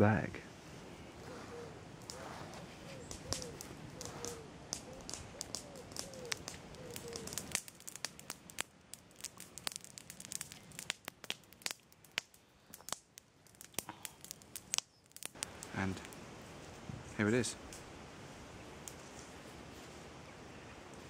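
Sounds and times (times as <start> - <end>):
bonfire crackling and popping: 0.0 - 19.6.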